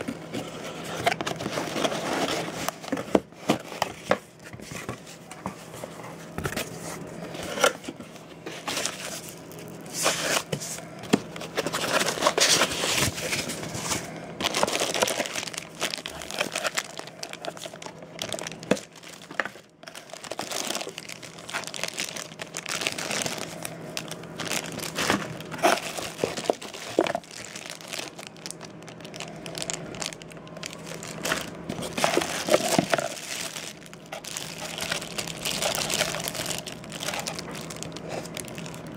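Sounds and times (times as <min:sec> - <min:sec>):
plastic bags crinkling: 0:00.0 - 0:38.9.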